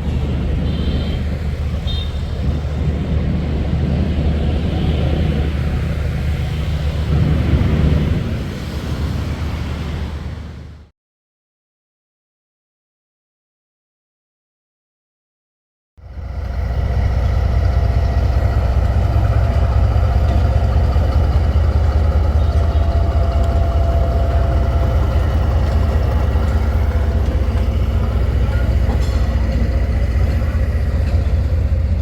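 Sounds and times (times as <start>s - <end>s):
diesel locomotive engine running: 0.0s - 10.9s, 16.0s - 32.0s.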